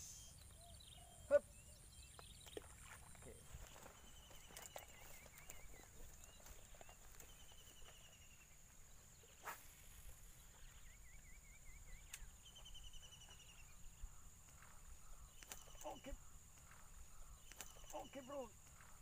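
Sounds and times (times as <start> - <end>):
faint birds calling: 0.0 - 19.0.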